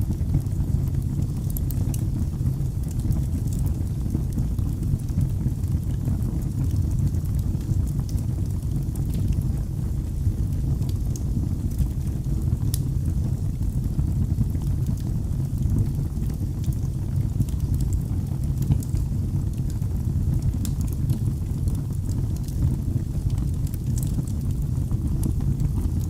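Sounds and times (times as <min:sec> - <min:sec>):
fire crackling in fireplace: 0:00.0 - 0:26.0.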